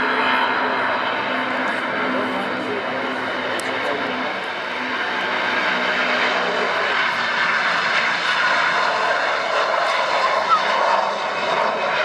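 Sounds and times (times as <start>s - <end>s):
airliner engines running: 0.0s - 12.0s.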